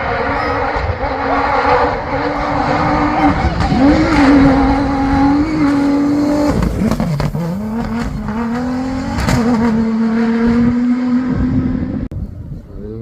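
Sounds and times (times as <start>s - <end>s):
engine revving at high revs: 0.8s - 12.0s.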